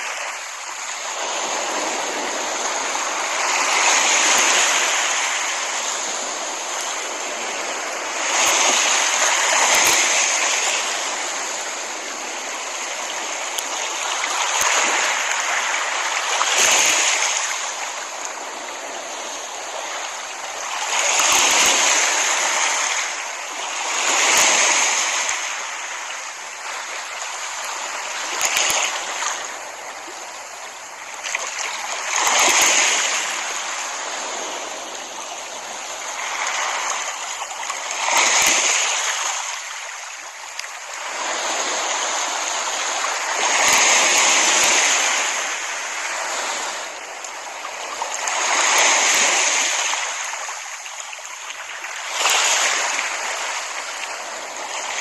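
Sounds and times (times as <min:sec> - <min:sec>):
small waves breaking on beach: 0:00.0 - 0:55.0.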